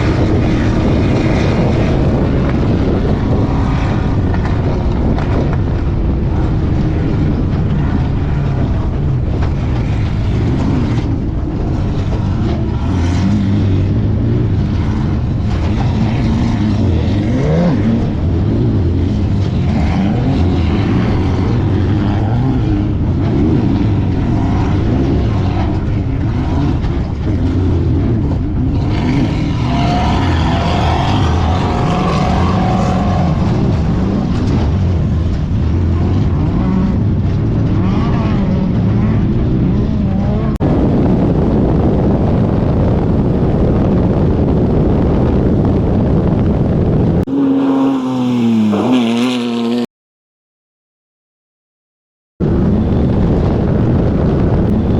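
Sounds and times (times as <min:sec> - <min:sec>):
race car engine revving: 0:00.0 - 0:41.4, 0:47.0 - 0:49.9
rumble of driving noise: 0:00.0 - 0:49.9, 0:52.4 - 0:54.9.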